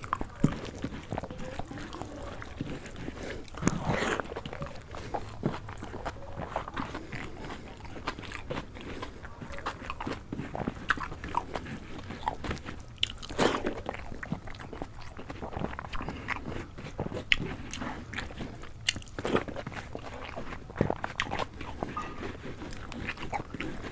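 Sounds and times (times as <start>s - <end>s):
chewing and crunchy bites: 0.0s - 23.9s
fingers squishing rice: 0.0s - 23.9s.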